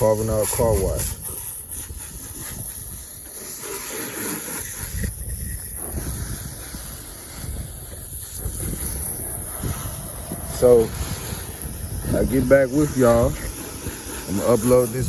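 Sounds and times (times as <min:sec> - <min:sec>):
water spray hissing against car: 0:00.0 - 0:15.0
wind rumbling on microphone: 0:00.0 - 0:15.0.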